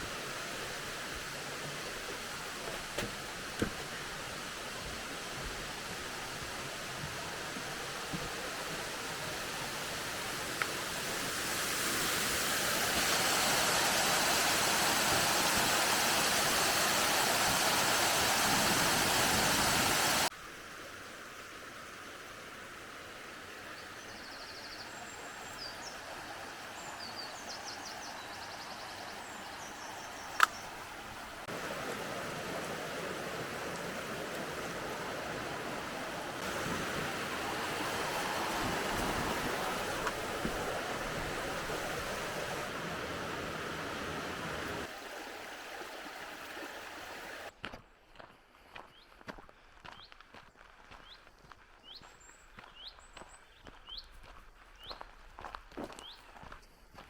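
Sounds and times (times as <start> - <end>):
rushing water and waterfall: 0.0 - 47.6.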